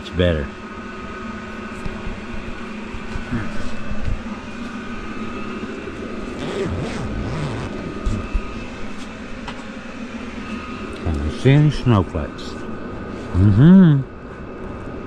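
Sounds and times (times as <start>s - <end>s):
heater humming: 0.0s - 15.0s.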